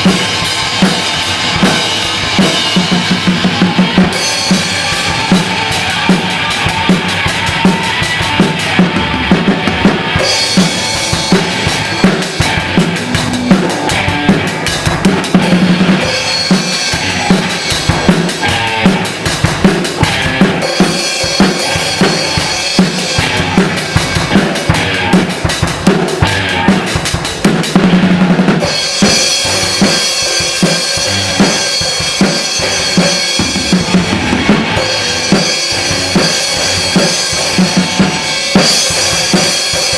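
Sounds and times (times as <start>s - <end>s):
drum kit beat: 0.0s - 39.9s.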